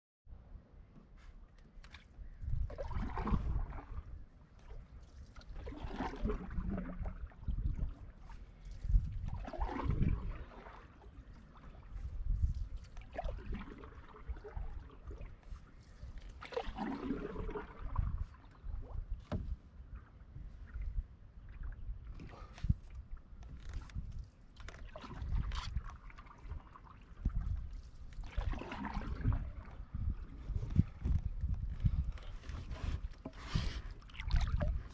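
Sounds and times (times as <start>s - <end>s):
paddle strokes splashing water: 1.2s - 34.9s
water trickling off paddle: 1.5s - 34.9s.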